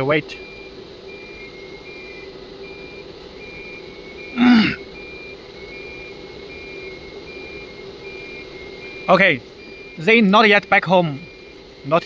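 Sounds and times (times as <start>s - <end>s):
two-tone alarm beeps: 0.4s - 12.0s.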